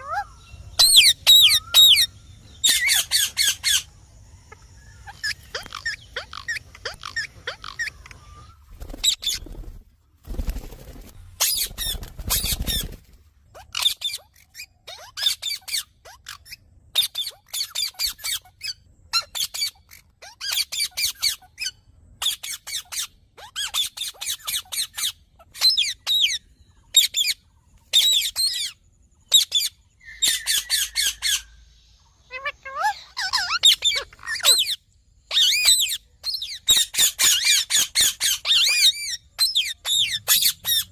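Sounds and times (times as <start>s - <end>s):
parakeet squawky chirps: 0.0s - 9.4s, 13.5s - 31.5s, 32.2s - 40.9s.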